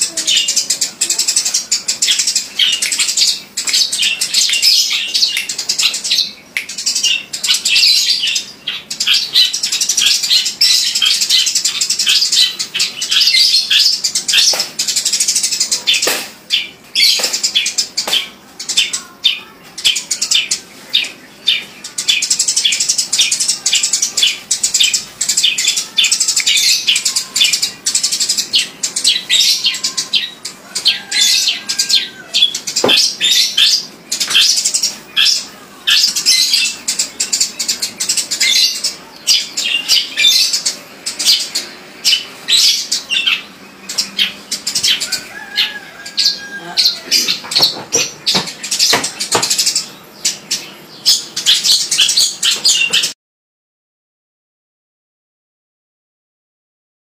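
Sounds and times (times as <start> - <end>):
sparrow chirping: 0.0 - 53.2.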